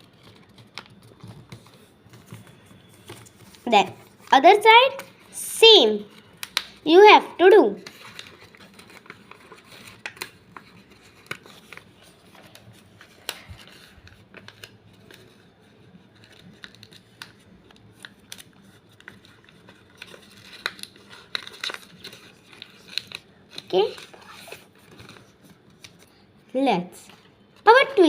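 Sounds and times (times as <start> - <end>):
paper being folded and creased: 0.0 - 5.4, 6.0 - 26.2
paper crackling: 0.0 - 26.2.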